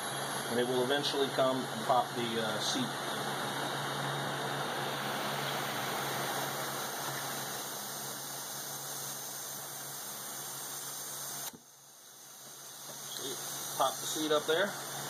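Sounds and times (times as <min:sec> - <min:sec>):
compressed air hissing: 0:00.0 - 0:15.0.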